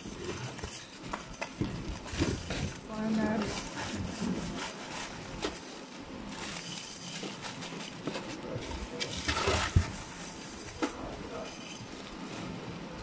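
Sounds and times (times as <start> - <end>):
plastic bag crinkling: 0.0 - 12.6.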